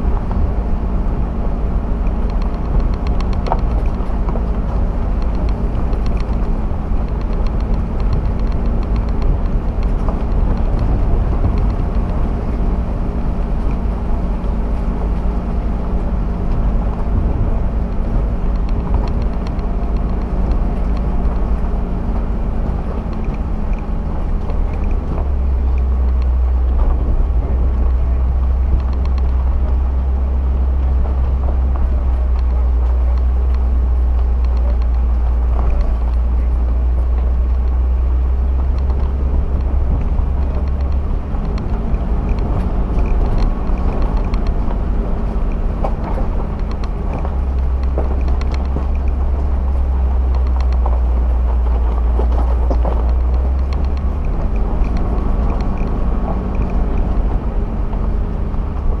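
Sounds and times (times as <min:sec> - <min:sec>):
tyres on gravel: 0:00.0 - 0:59.0
vehicle engine drone: 0:00.0 - 0:59.0.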